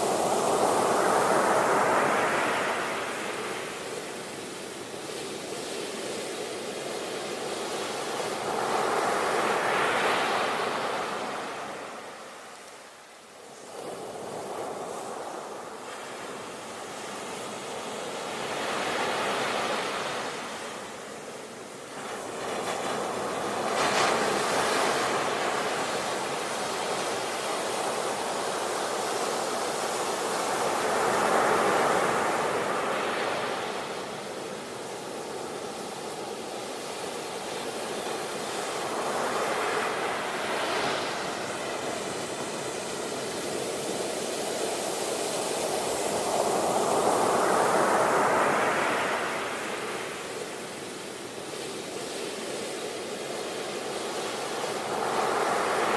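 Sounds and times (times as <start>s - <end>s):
sea waves breaking on shore: 0.0s - 55.9s.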